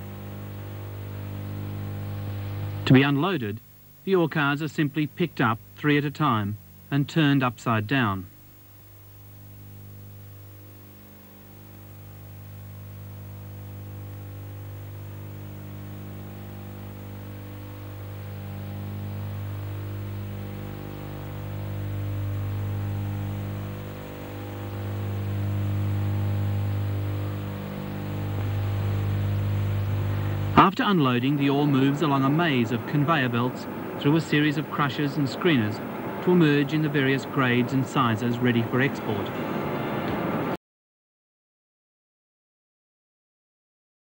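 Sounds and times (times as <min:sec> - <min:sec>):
deep electrical machinery hum: 0:00.0 - 0:40.6.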